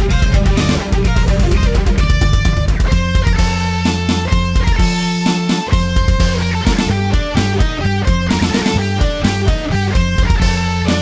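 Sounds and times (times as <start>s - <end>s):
distorted electric guitar: 0.0s - 11.0s
electric bass: 0.0s - 11.0s
steady beat: 0.0s - 11.0s.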